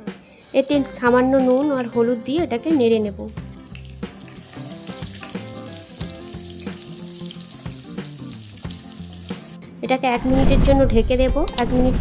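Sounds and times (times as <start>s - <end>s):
potatoes sizzling in hot oil: 0.4s - 10.1s.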